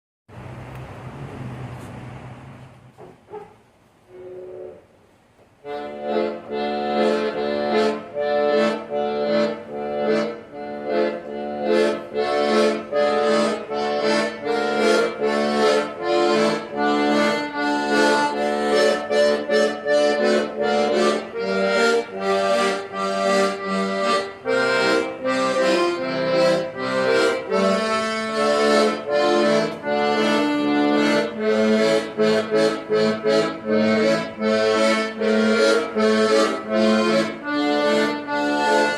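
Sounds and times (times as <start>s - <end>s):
accordion playing a tune: 4.1s - 38.9s.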